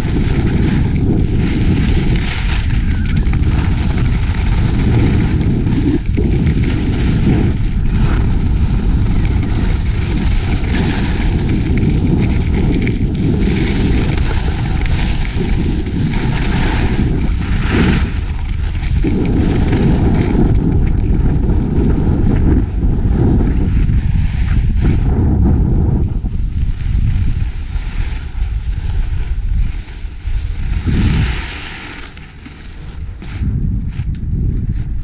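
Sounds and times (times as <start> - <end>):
skis sliding on snow: 0.0 - 35.0
wind buffeting microphone: 0.0 - 35.0.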